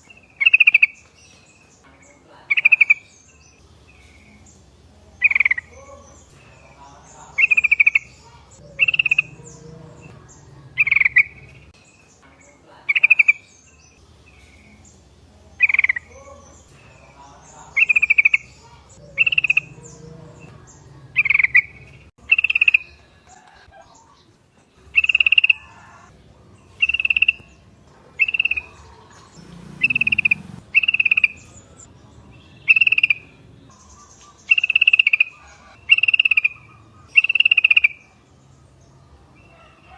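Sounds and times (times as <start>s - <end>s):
faint bird chirps: 0.0s - 38.3s
bulbuls calling: 0.0s - 39.9s.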